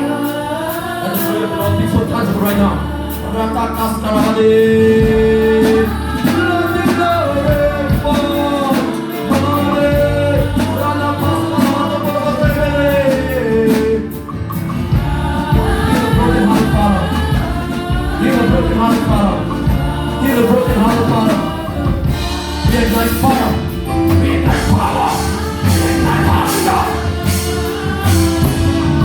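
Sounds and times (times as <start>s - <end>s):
held instrumental chords: 0.0s - 29.0s.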